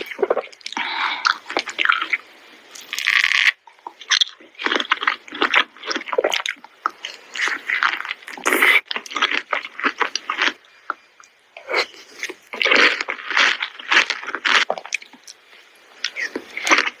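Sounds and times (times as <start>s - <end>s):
crunchy fruit chewing: 0.0s - 17.0s.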